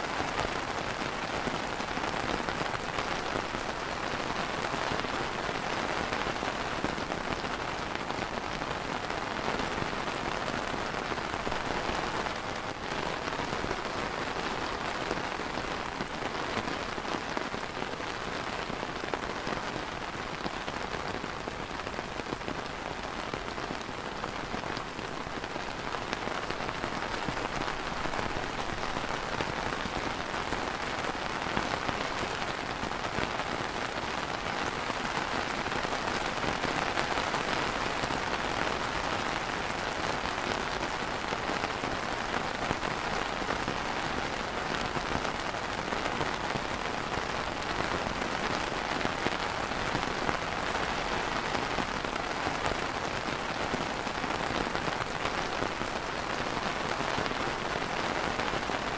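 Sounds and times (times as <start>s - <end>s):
rain on an umbrella: 0.0s - 58.9s.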